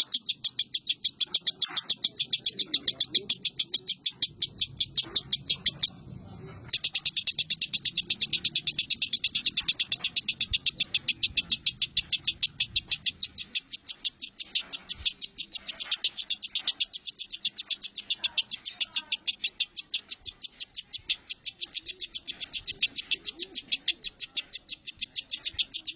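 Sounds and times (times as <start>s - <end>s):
lovebird rapid chattering: 0.0s - 6.0s, 6.7s - 25.9s.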